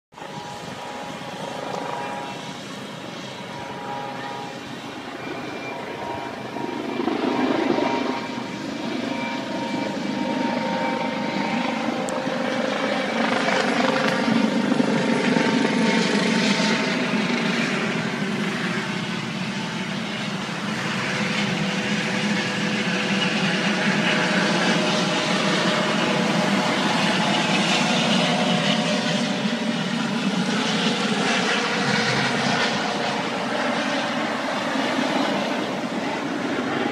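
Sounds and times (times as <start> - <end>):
helicopter flying overhead: 0.1 - 36.9.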